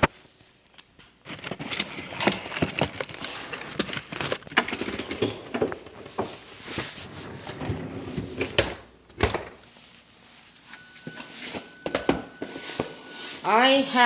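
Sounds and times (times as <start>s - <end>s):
packages rustling: 0.2s - 14.0s.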